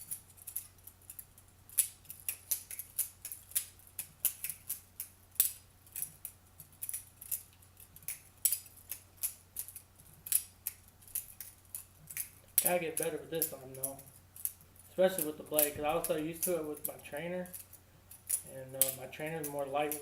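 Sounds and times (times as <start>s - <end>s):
butterfly knife clicking and clacking: 0.0s - 20.0s.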